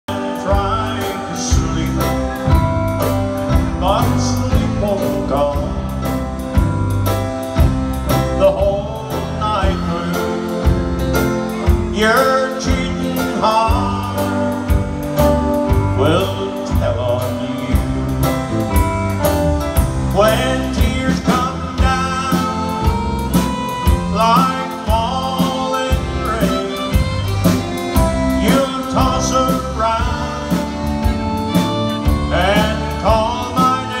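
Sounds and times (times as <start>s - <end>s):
man singing: 0.0s - 18.8s, 19.6s - 34.0s
drums: 0.0s - 34.0s
electric bass guitar: 0.0s - 34.0s.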